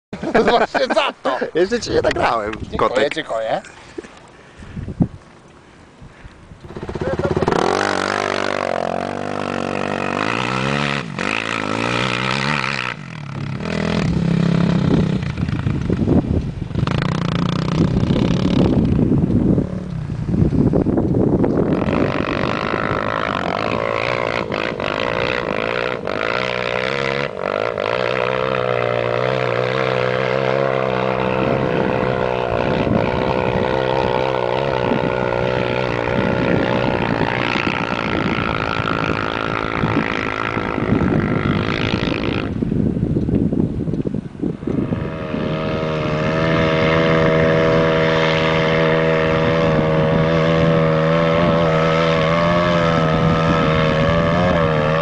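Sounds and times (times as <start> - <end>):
quad bike engine revving: 6.6 - 43.0, 44.5 - 55.0.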